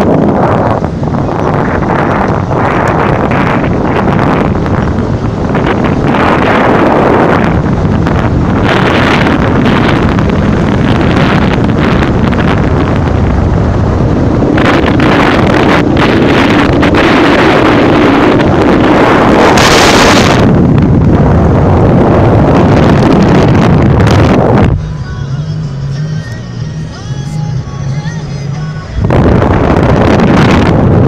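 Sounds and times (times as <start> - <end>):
road noise rushing: 0.0 - 31.0
wind buffeting microphone: 0.0 - 31.0.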